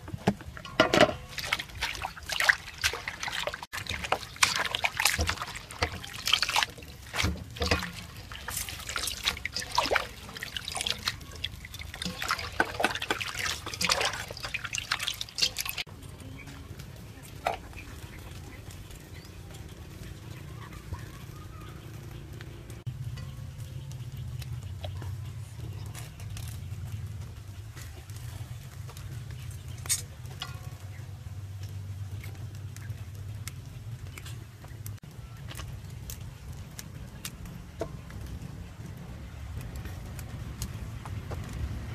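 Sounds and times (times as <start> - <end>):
water trickling and dripping: 0.0 - 41.9.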